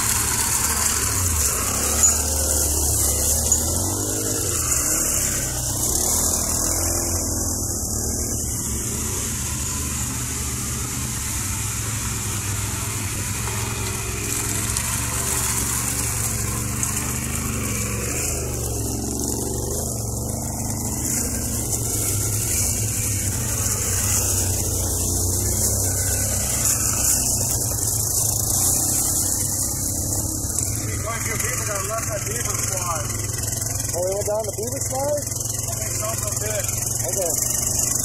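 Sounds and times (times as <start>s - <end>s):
atv engine running: 0.0s - 38.0s
constant high hiss: 0.0s - 38.0s.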